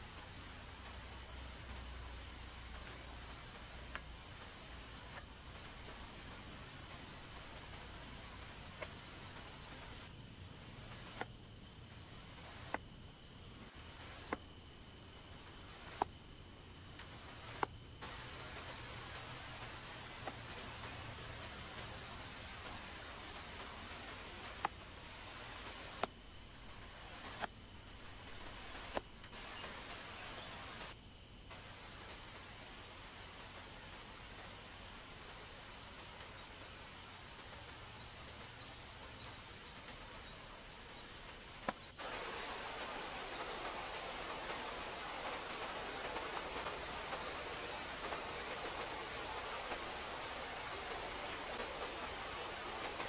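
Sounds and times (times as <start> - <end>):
background hiss: 0.0 - 53.0
insects trilling: 0.0 - 53.0.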